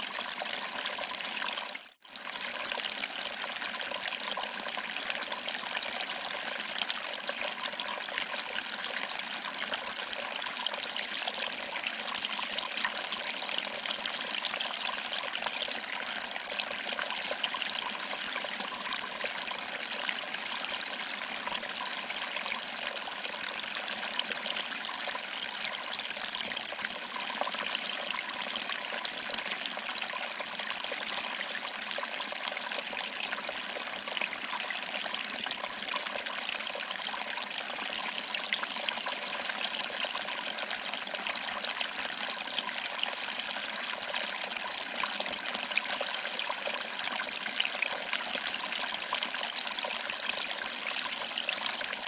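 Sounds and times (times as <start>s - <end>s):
water trickling over rocks: 0.0s - 52.0s.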